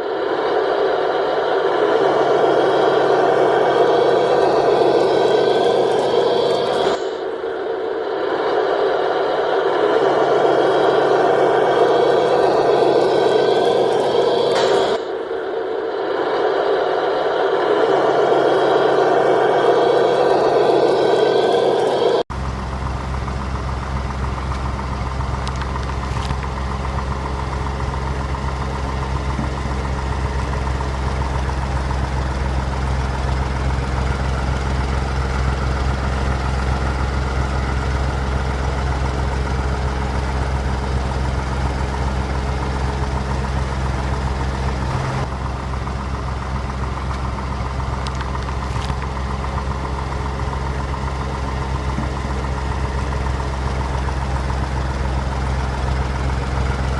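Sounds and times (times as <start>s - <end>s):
heavy engine idling: 0.0s - 56.9s.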